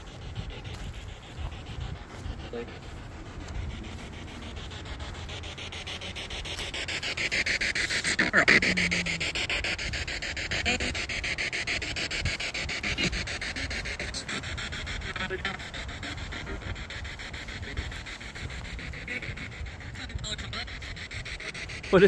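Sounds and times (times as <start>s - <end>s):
chopped radio static: 0.0s - 22.0s.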